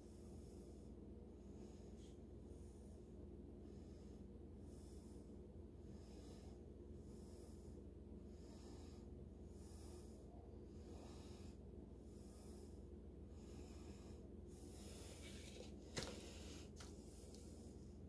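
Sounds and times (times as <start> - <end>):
faint slow breathing: 0.0 - 18.0.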